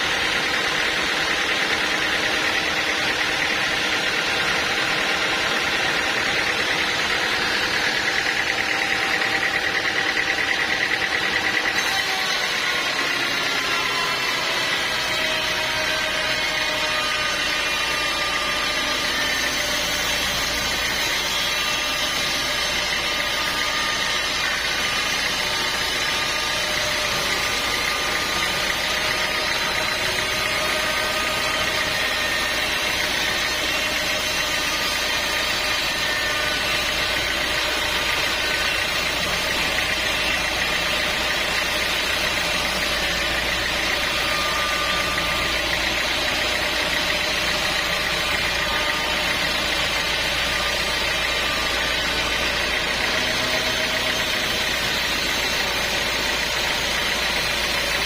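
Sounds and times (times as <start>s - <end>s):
machinery drone: 0.0s - 58.0s.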